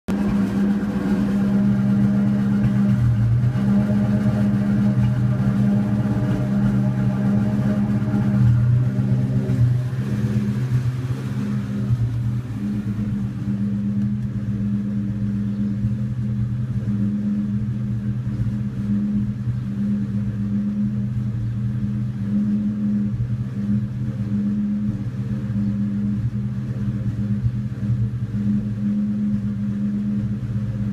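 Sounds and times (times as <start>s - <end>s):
car engine idling unevenly: 0.0s - 30.9s.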